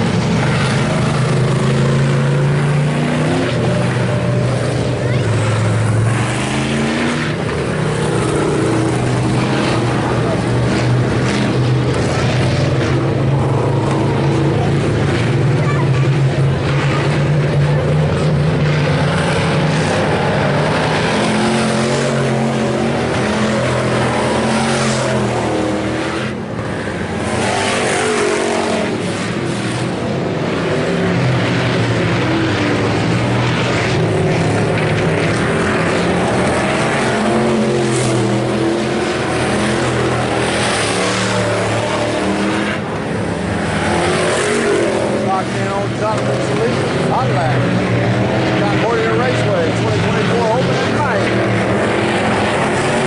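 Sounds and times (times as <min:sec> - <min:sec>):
race car engines: 0:00.0 - 0:53.0.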